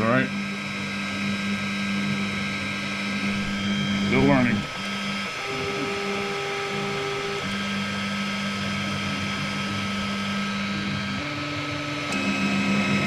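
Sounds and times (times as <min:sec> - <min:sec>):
fan humming: 0:00.0 - 0:11.2
stepper motors whining: 0:00.0 - 0:13.0.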